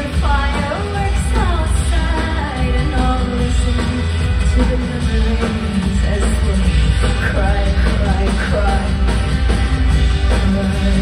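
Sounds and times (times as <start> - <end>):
live rock band playing: 0.0 - 11.0
woman singing: 0.0 - 11.0.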